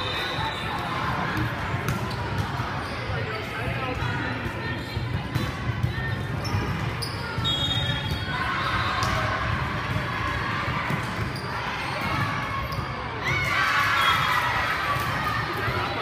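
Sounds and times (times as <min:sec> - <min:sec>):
crowd shouting and cheering: 0:00.0 - 0:16.0.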